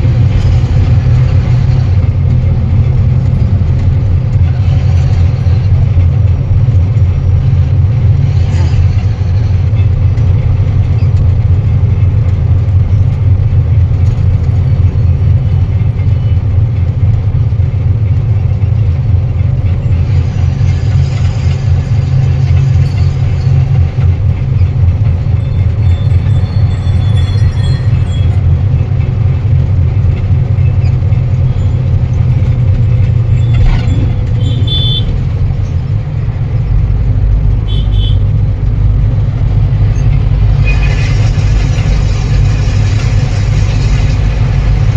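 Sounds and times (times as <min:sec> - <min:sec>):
truck engine droning: 0:00.0 - 0:44.9.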